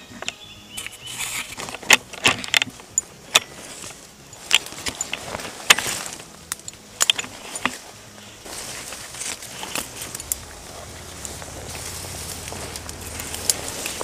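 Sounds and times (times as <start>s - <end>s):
rifle and gear clicking and rattling: 0.0s - 14.0s.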